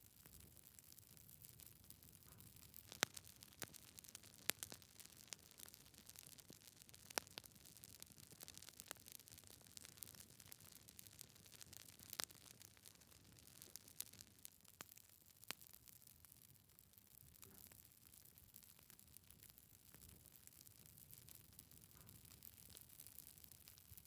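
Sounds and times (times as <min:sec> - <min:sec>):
wood fire crackling: 0:00.1 - 0:24.0.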